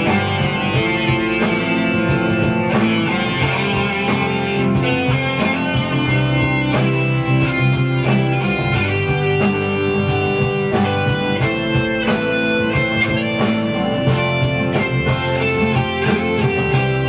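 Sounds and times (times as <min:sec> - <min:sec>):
guitar plucked notes and chords: 0:00.0 - 0:17.0.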